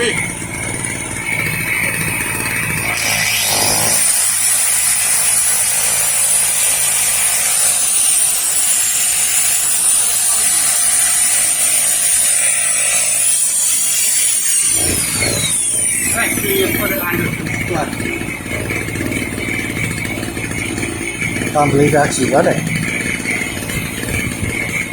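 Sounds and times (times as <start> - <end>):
electric power tool whining: 0.0 - 24.9
portable generator engine: 0.0 - 24.9.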